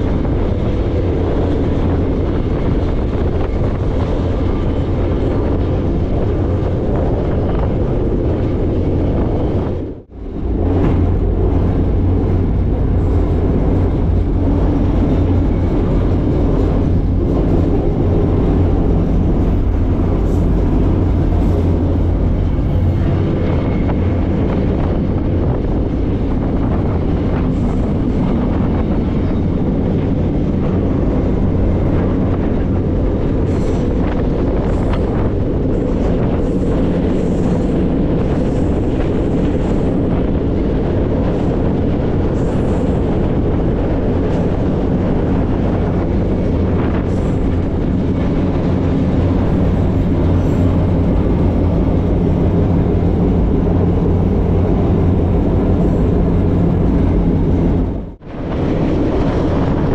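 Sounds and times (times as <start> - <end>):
freight train rumbling and rattling: 0.0 - 59.9.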